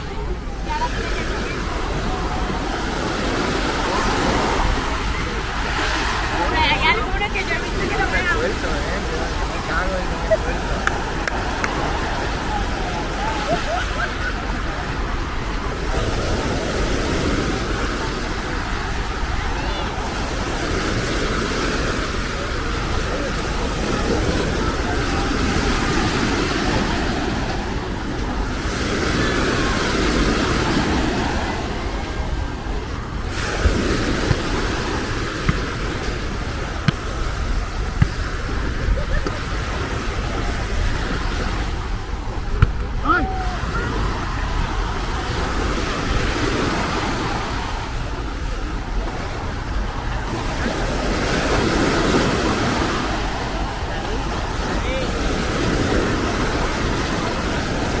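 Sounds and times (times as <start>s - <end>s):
waves washing on sand: 0.0s - 58.0s
wind rumble on microphone: 0.0s - 58.0s.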